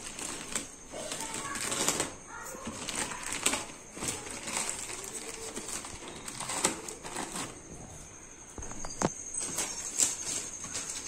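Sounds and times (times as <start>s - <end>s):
plastic bag crinkling: 0.0s - 7.9s, 8.6s - 11.0s.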